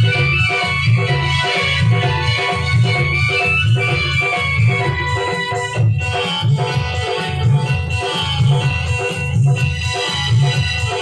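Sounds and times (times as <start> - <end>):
dance music: 0.0 - 11.0.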